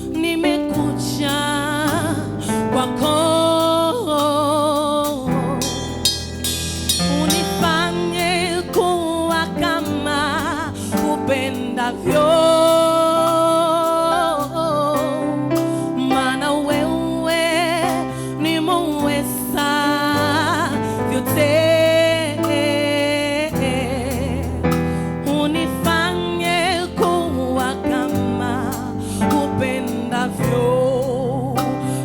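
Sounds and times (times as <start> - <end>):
instrumental accompaniment: 0.0 - 32.0.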